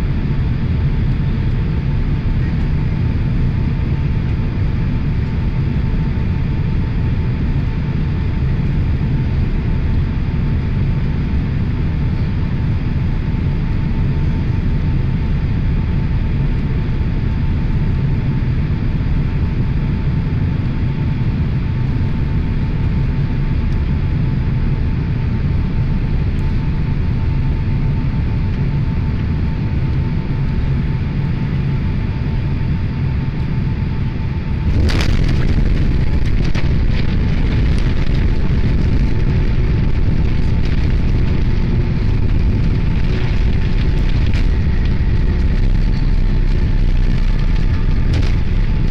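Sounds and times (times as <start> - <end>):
engine and airflow rumble: 0.0 - 48.9
faint steady whine: 0.0 - 48.9.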